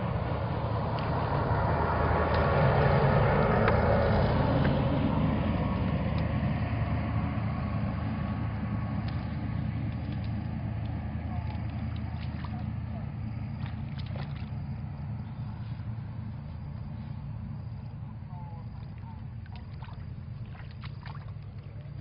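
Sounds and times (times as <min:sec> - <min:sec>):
steady low hum: 0:00.0 - 0:22.0
vehicle engine passing by: 0:00.0 - 0:22.0.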